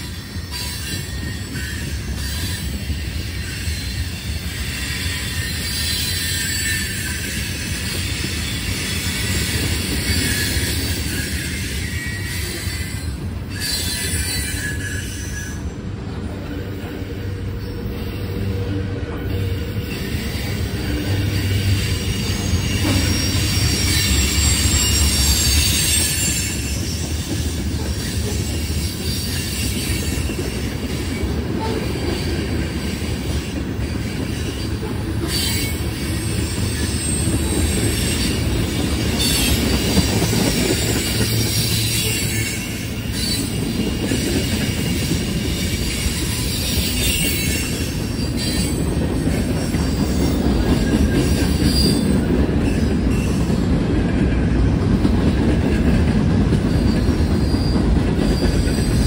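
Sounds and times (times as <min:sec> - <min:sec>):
steel wheels squealing on rails: 0:00.0 - 0:59.0
train cars rolling past: 0:00.0 - 0:59.0.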